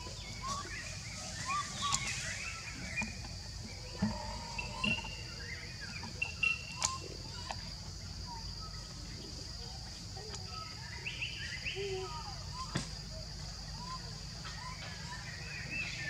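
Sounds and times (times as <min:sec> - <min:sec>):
bird-like chirps: 0:00.0 - 0:16.0
high insect drone: 0:00.0 - 0:16.0.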